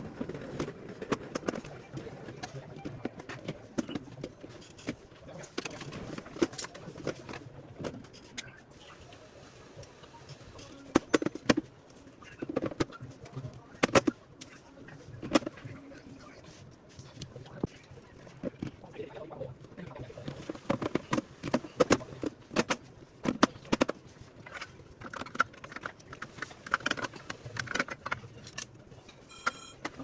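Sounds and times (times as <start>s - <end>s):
low background murmur: 0.0s - 30.0s.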